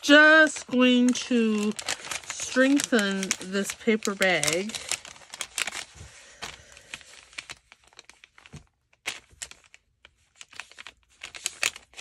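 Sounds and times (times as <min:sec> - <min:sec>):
paper crinkling and rustling: 0:00.0 - 0:12.0.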